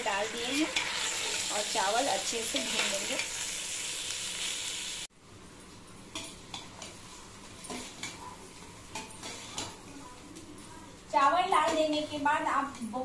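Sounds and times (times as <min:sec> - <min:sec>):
rice sizzling in hot oil: 0:00.0 - 0:05.1, 0:06.1 - 0:13.0.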